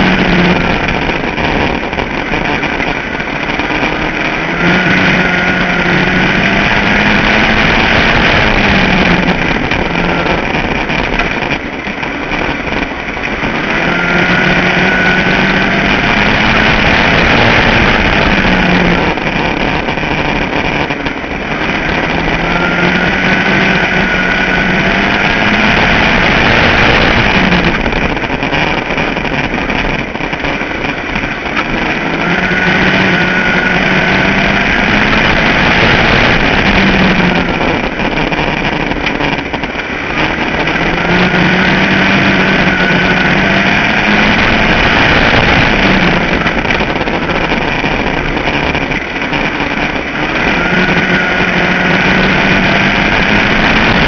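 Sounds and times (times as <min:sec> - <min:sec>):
race car engine running flat out: 0:00.0 - 0:54.0
steady rushing noise: 0:00.0 - 0:54.0.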